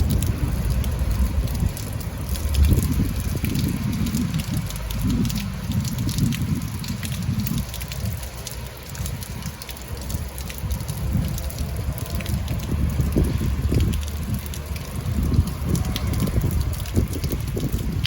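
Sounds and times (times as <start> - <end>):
rain drops ticking: 0.0 - 18.0
wind buffeting microphone: 0.0 - 18.0.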